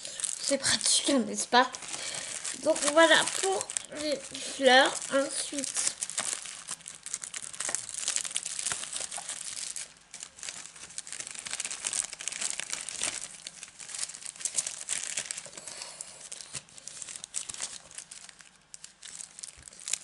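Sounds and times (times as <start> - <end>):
plastic packaging crinkling: 0.0 - 20.0.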